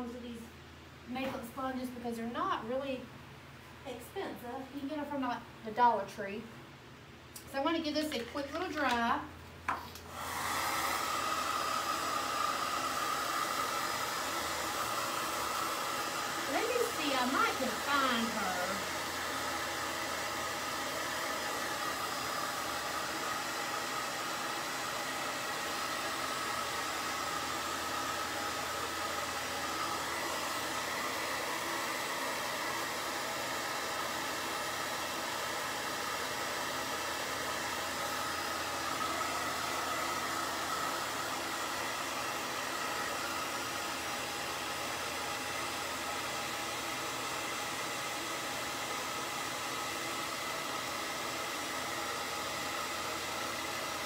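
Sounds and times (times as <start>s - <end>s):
hot-air dryer blowing: 9.7s - 54.0s.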